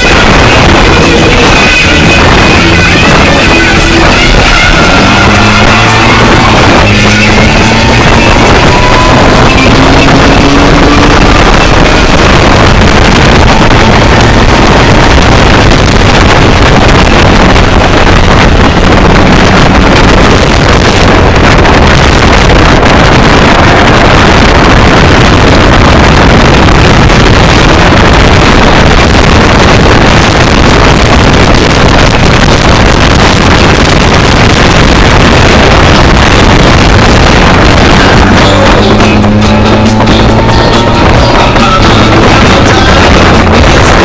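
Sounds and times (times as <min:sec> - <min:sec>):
car engine at speed: 0:00.0 - 0:44.0.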